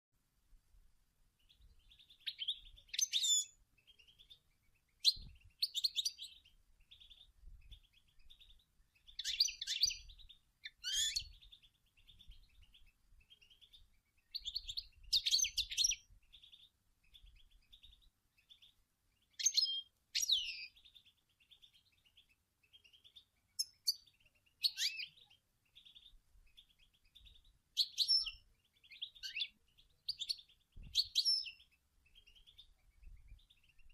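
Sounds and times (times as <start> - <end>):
finch twittering: 1.4 - 33.9.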